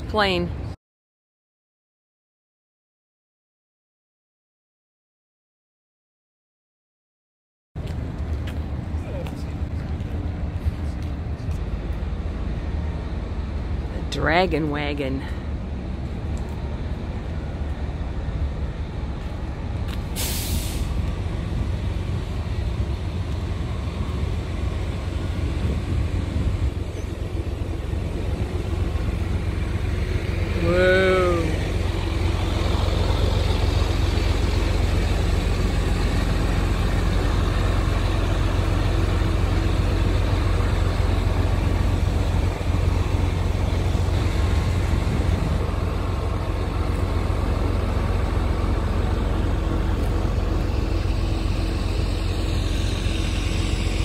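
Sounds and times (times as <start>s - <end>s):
low vehicle rumble: 7.8s - 54.0s.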